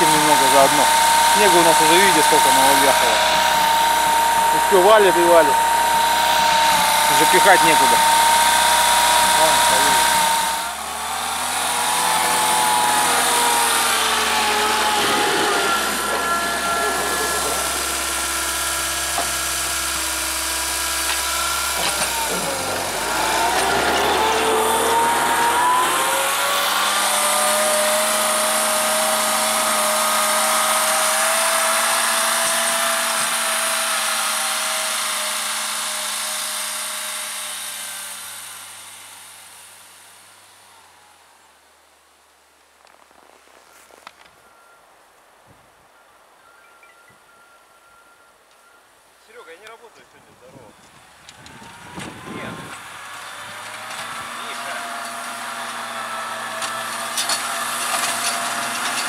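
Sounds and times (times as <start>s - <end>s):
tractor engine under load: 0.0s - 41.1s, 49.6s - 59.0s.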